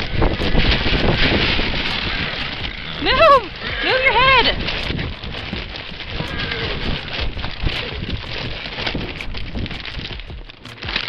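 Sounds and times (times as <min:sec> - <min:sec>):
rustling crackling noise: 0:00.0 - 0:11.0.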